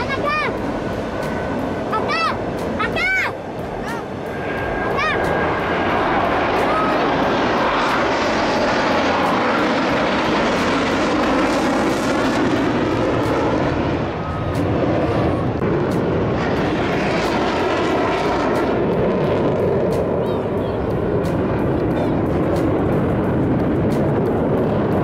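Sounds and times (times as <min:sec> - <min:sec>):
jet aircraft engine roar: 0:00.0 - 0:25.0.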